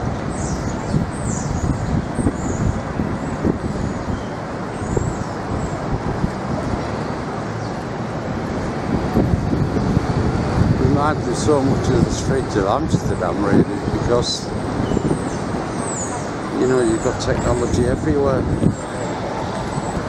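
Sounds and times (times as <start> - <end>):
busy city street traffic: 0.0 - 20.0.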